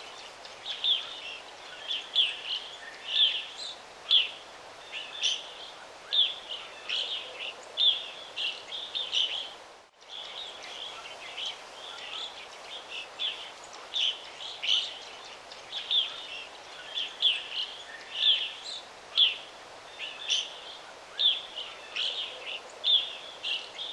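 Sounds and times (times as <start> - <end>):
birds chirping: 0.0 - 23.9
steady background hiss: 0.0 - 23.9.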